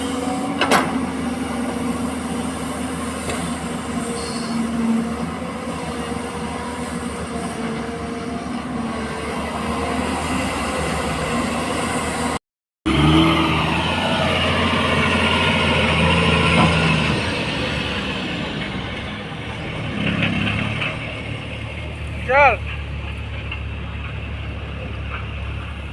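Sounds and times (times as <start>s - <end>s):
diesel engine running under load: 0.0s - 25.9s.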